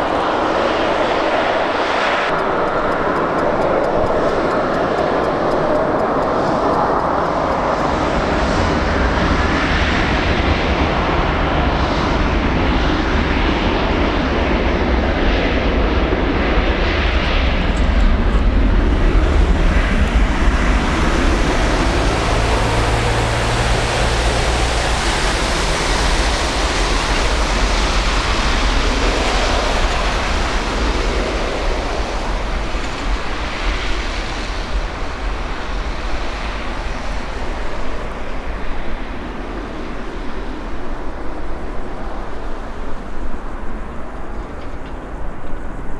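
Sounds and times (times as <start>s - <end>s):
jet engines roaring: 0.0s - 45.9s.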